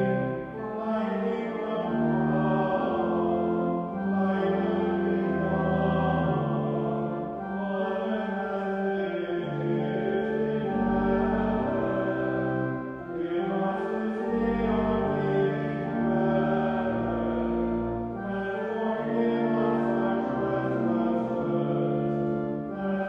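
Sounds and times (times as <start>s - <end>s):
deep organ pedal notes: 0.0s - 23.0s
pipe organ slow chords: 0.0s - 23.0s.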